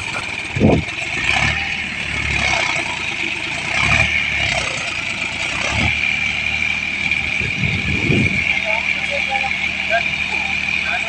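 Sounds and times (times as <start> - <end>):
tractor engine labouring: 0.0 - 11.0.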